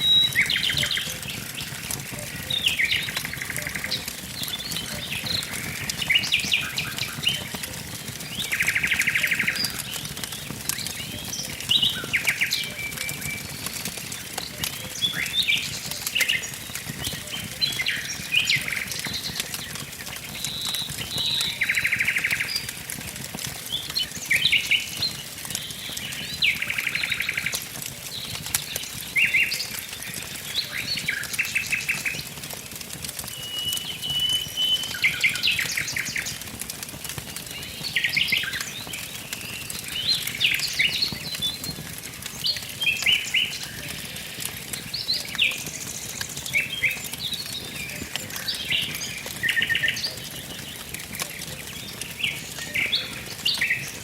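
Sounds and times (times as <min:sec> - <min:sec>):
birds singing and chirping: 0:00.0 - 0:54.0
wood fire crackling: 0:00.0 - 0:54.0.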